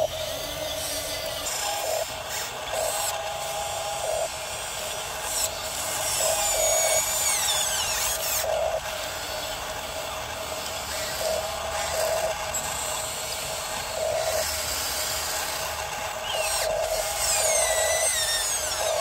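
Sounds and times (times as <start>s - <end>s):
toy electric motors whining: 0.0s - 19.0s.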